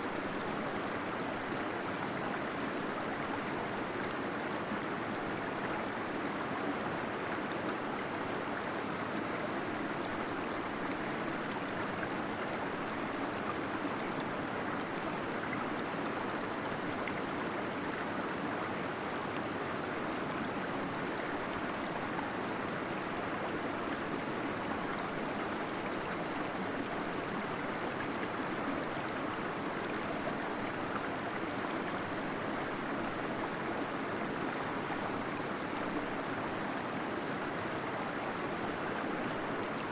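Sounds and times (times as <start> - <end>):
small waterfall flowing: 0.0 - 39.9.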